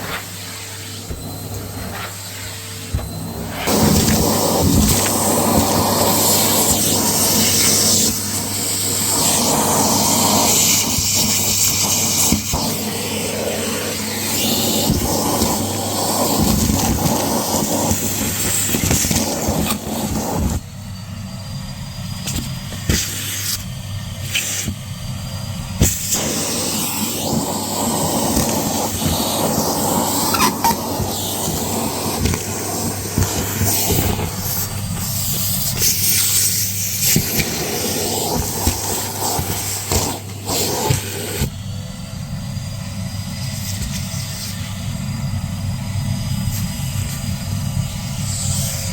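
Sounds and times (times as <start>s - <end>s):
vacuum cleaner motor hum: 0.0s - 48.9s.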